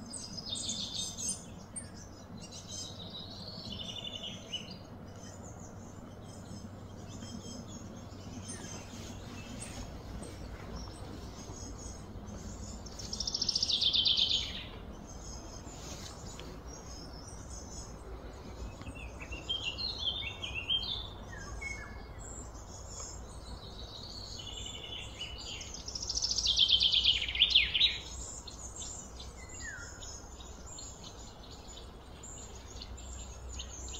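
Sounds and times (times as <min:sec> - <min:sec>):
low background rumble: 0:00.0 - 0:33.9.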